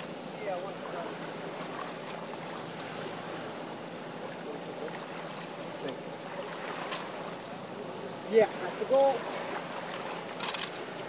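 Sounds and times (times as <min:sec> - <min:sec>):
faint distant sounds: 0:00.0 - 0:11.0.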